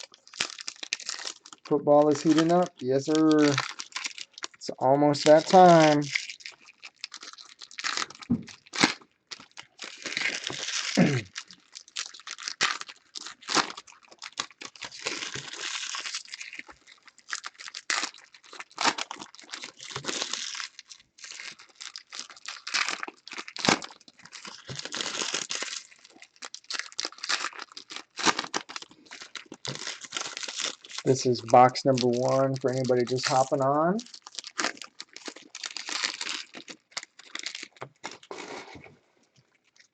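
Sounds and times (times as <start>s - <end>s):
packaging tearing and crinkling: 0.0s - 38.8s.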